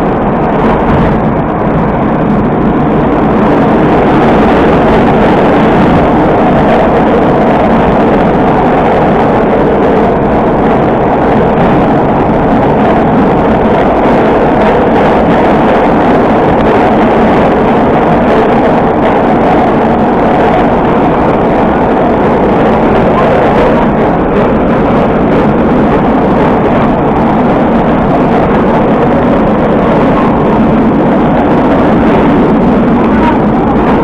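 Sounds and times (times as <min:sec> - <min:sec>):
train rumbling through tunnel: 0:00.0 - 0:34.0.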